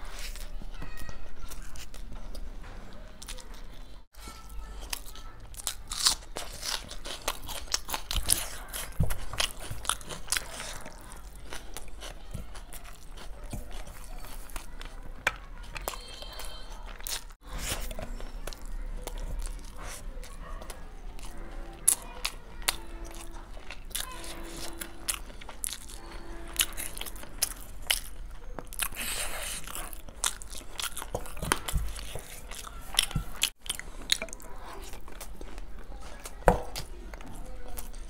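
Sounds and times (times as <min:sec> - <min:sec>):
chewing with wet mouth clicks: 0:04.8 - 0:38.0.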